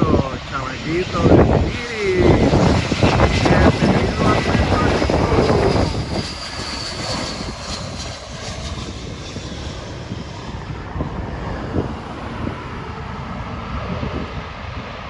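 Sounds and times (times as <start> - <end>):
jet engines with high whine: 0.0 - 15.0.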